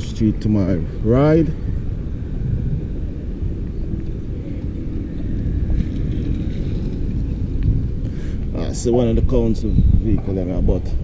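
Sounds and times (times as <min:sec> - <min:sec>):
road traffic rumbling: 0:00.0 - 0:11.0.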